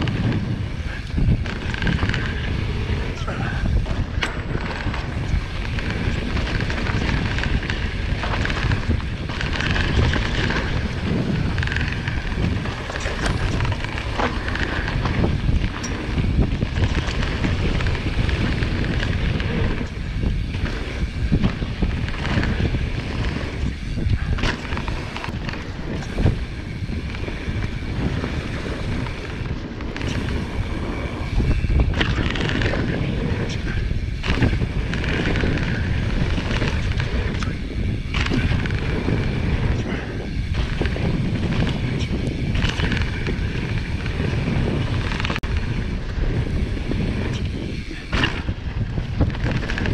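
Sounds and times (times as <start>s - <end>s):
bike knocks and rattles: 0.0s - 49.9s
mountain bike rolling on rough trail: 0.0s - 49.9s
wind buffeting microphone: 0.0s - 49.9s.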